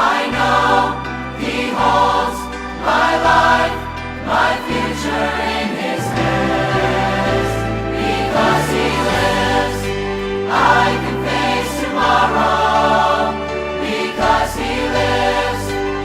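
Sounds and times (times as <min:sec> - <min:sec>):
choir singing a hymn: 0:00.0 - 0:16.0
instrumental chords and bass: 0:00.0 - 0:16.0.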